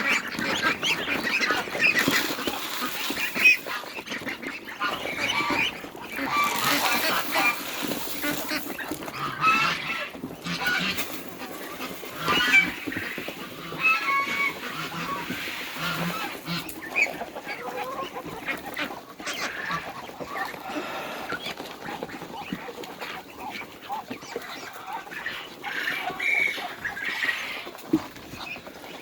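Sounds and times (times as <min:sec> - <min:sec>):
geese honking: 0:00.0 - 0:27.8
ducks quacking: 0:00.0 - 0:29.0.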